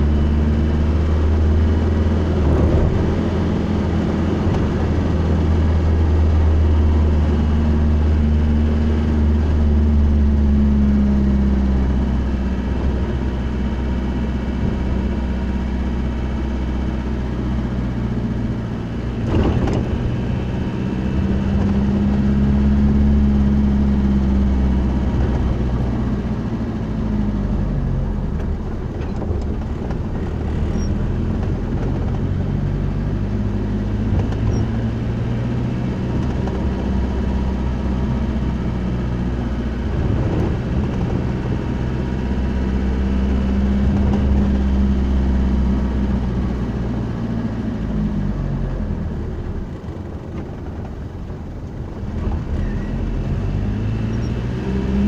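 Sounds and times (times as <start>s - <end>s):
car engine from inside cabin: 0.0s - 55.0s
road noise: 0.0s - 55.0s.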